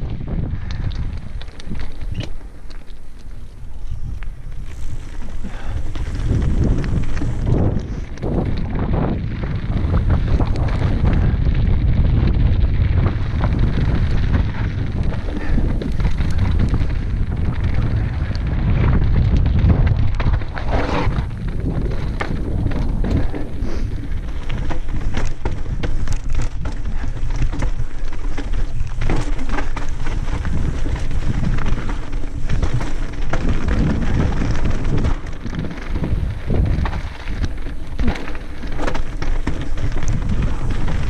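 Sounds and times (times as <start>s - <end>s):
bike rattling clicks and knocks: 0.0s - 41.0s
tyres crunching over stones: 0.0s - 41.0s
wind buffeting microphone: 0.0s - 41.0s.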